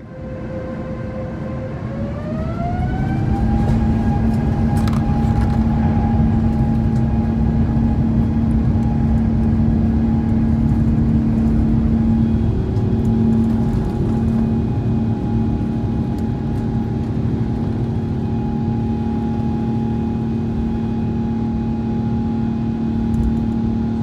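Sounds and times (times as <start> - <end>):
jet engines spooling up: 0.1 - 20.6.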